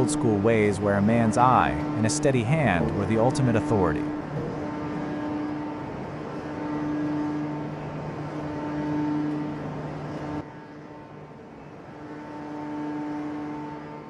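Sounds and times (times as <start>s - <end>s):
hydraulic press droning: 0.0s - 14.0s.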